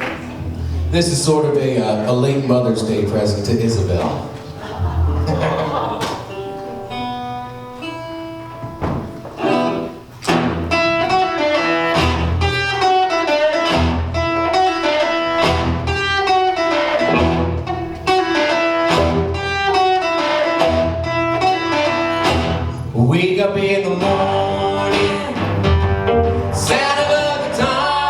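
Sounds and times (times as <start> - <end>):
acoustic guitar playing: 0.0 - 28.0.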